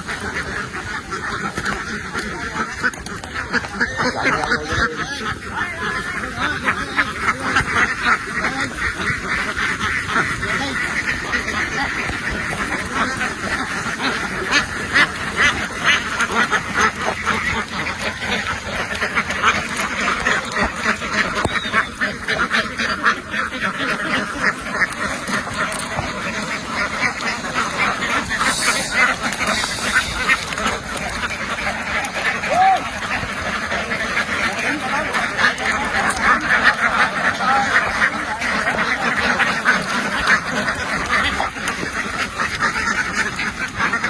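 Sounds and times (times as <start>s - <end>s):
ducks quacking: 0.0s - 44.0s.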